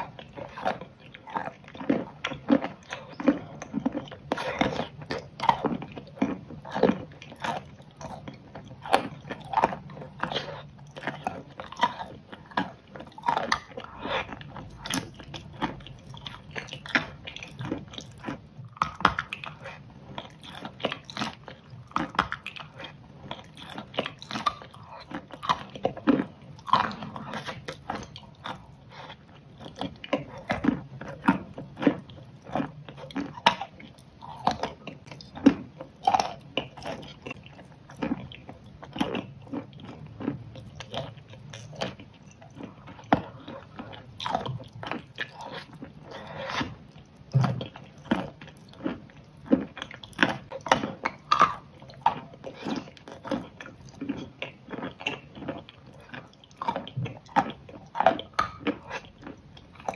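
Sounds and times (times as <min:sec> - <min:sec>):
person biting and chewing food: 0:00.0 - 0:59.9.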